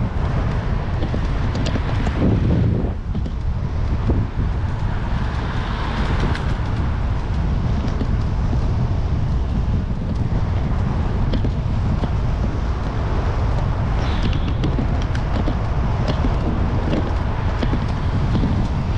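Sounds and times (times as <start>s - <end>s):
road traffic rumble: 0.0s - 18.9s
wind on microphone: 0.0s - 18.9s.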